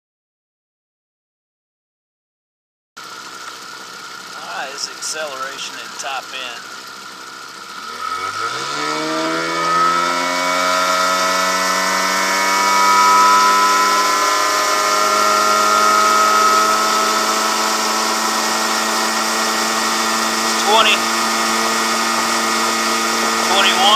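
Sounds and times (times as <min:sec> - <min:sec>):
outboard motor accelerating: 0:03.0 - 0:23.9.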